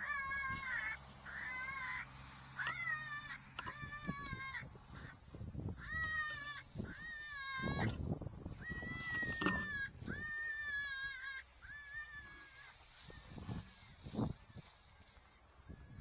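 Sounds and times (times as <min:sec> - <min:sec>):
high wavering animal cries: 0:00.0 - 0:14.7.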